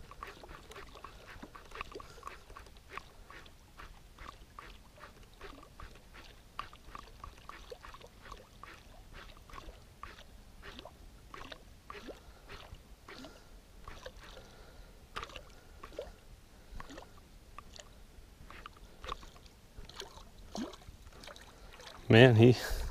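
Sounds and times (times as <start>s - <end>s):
water splashing and ticking: 0.0s - 22.6s.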